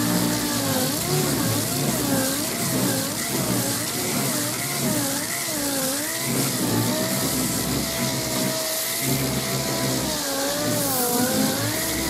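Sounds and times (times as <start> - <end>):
air sander motor whine: 0.0 - 12.0
hiss of air and grit: 0.0 - 12.0.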